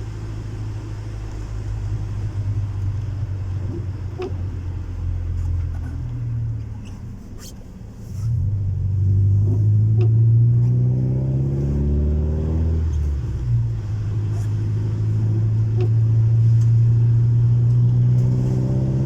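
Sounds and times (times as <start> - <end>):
car engine droning through exhaust: 0.0 - 19.0.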